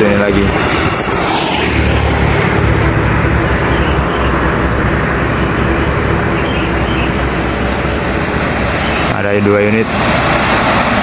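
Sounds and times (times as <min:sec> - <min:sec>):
heavy vehicle engine rumble: 0:00.0 - 0:11.0
tyre and road noise: 0:00.0 - 0:11.0.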